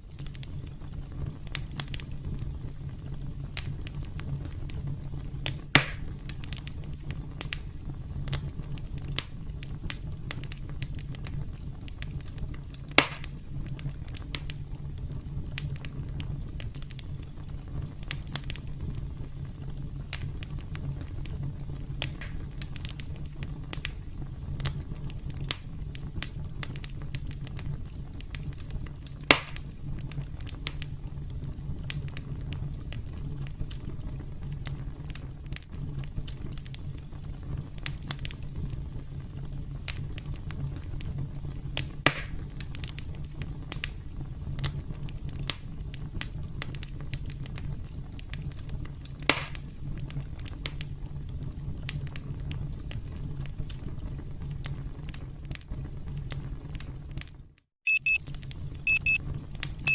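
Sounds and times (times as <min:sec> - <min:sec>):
campfire flames rumbling: 0:00.0 - 0:59.9
fire crackling and popping: 0:00.0 - 0:59.9.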